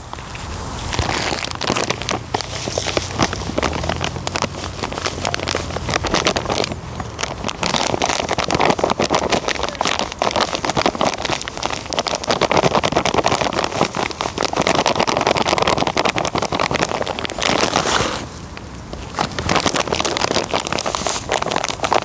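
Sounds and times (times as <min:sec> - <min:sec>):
dry groundbait pouring rustle: 0:00.0 - 0:22.0.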